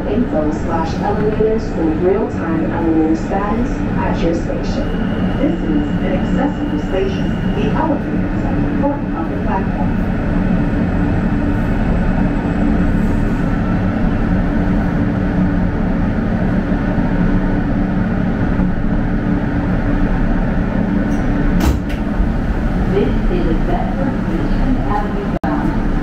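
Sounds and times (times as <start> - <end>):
subway car wheels on rails: 0.0 - 26.0.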